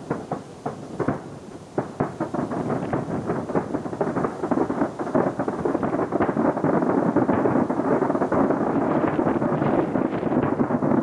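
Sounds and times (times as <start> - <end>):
fireworks shells bursting: 0.0 - 11.0.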